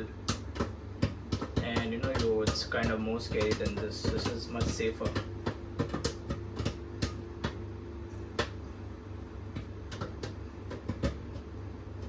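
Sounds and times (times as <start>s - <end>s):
microwave oven hum: 0.0s - 12.0s
popcorn popping: 0.0s - 12.0s.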